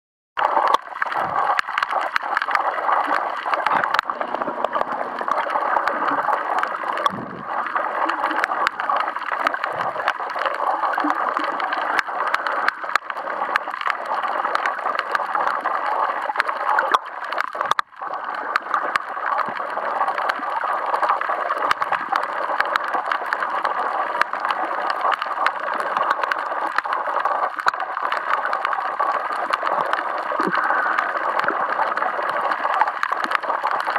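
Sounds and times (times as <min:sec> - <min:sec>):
muffled underwater rush: 0:00.4 - 0:33.9
small underwater clicks and crackles: 0:00.4 - 0:33.9.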